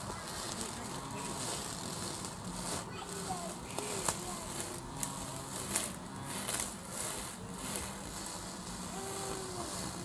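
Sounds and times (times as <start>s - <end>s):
grass trimmer cutting grass: 0.0s - 10.0s
ticks and crackles of clippings: 0.0s - 10.0s.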